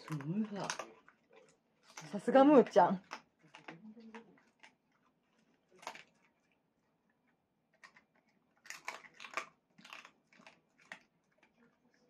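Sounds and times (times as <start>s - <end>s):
dog chewing crunches: 0.0s - 12.0s.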